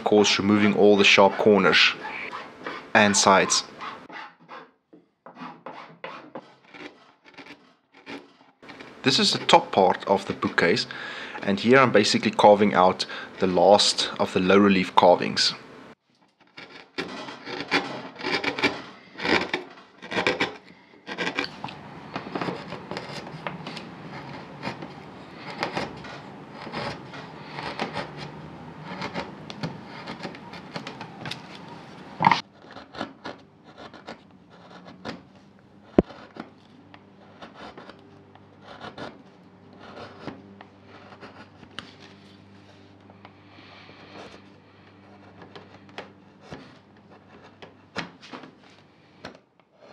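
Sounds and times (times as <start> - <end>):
gouge scraping through wood: 0.2 - 4.7, 5.3 - 10.8, 16.4 - 36.6, 37.2 - 42.9, 43.5 - 47.9.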